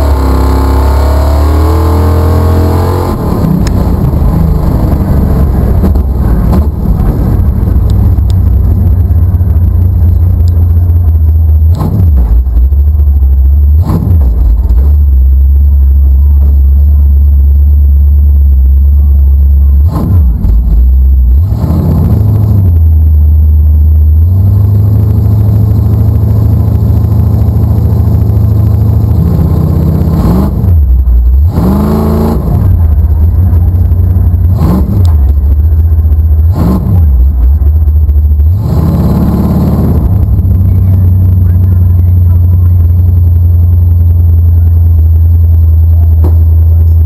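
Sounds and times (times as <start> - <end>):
car engine idling and revving: 0.0 - 47.0.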